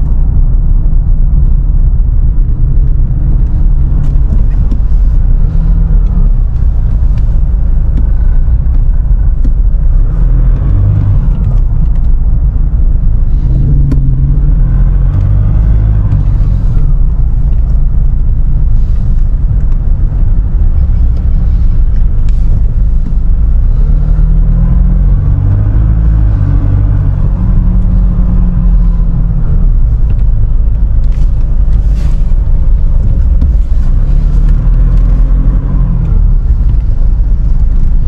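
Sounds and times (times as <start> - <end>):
car cabin road rumble: 0.0 - 38.0.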